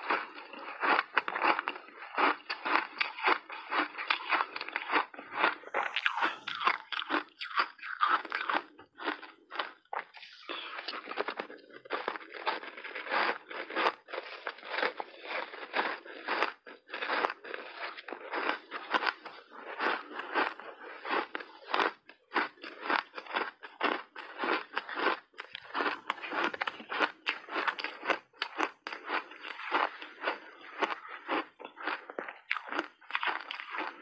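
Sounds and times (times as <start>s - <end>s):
chewing crunchy ice: 0.0s - 34.0s.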